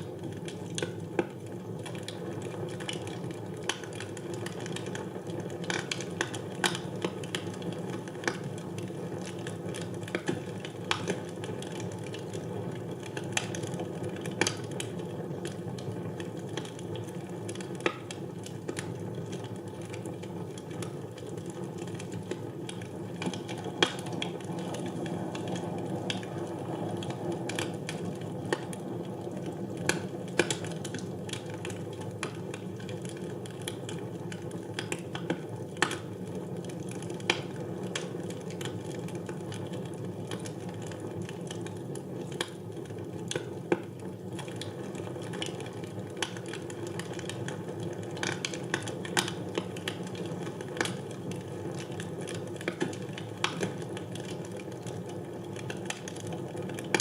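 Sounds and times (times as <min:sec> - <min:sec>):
wood fire burning: 0:00.0 - 0:57.0.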